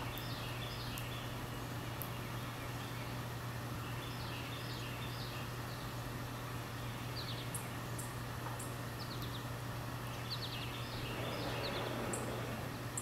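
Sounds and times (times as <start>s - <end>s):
songbirds chirping: 0.0s - 13.0s
steady low hum: 0.0s - 13.0s.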